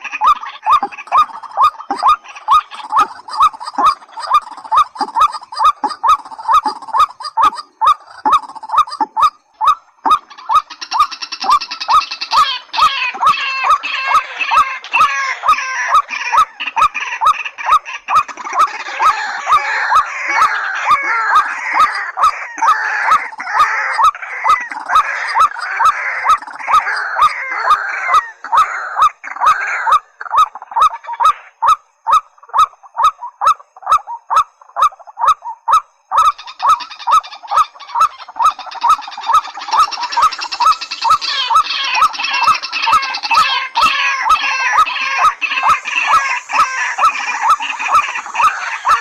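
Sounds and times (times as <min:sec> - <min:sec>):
chorus of higher bird calls: 0:00.0 - 0:49.0
waterhen calls: 0:00.0 - 0:49.0.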